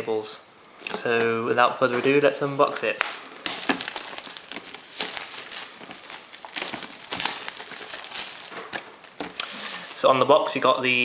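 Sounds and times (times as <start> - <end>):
plastic wrap crinkling: 0.7 - 10.6.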